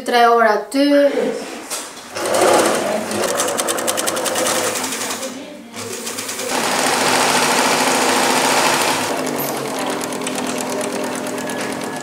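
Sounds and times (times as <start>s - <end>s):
sewing machine stitching fast: 2.1s - 12.0s.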